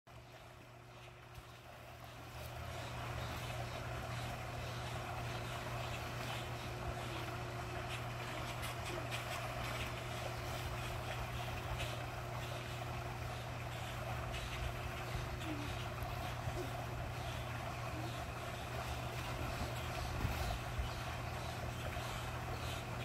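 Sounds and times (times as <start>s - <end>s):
low motor hum: 0.1s - 23.0s
water splashing: 1.1s - 23.0s.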